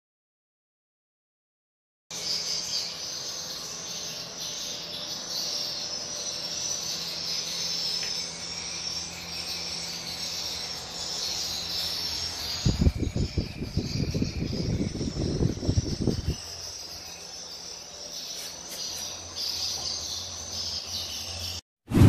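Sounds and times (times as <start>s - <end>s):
high-pitched bird chirping chorus: 2.2s - 21.6s
steady low hum: 2.2s - 22.0s.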